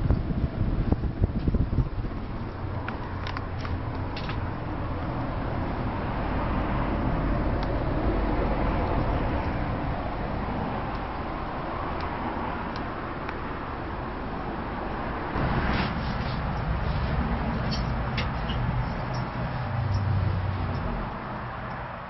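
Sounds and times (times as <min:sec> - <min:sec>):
ceiling fan air rush: 0:00.0 - 0:22.0
low motor hum: 0:00.0 - 0:22.0.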